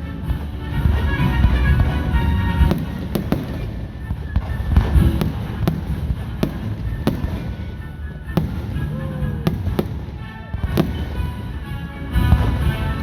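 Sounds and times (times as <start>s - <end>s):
music playing: 0.0s - 13.0s
fireworks banging: 0.2s - 13.0s.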